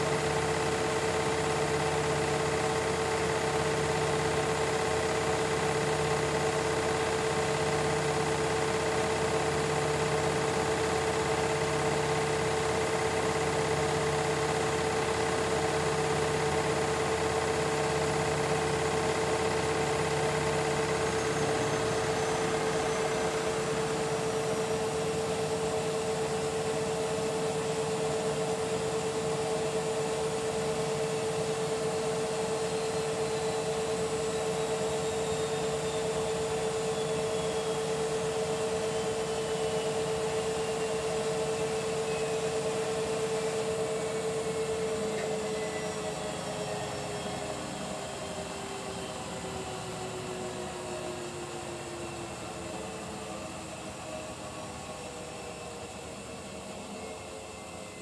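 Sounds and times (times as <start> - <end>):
washing machine motor whine: 0.0 - 58.0.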